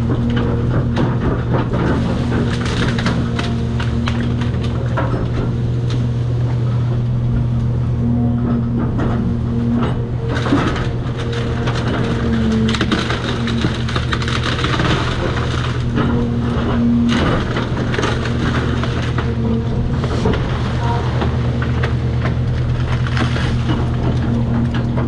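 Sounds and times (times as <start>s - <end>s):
excavator diesel engine under load: 0.0s - 25.0s
wood cracking and crunching: 0.0s - 25.0s.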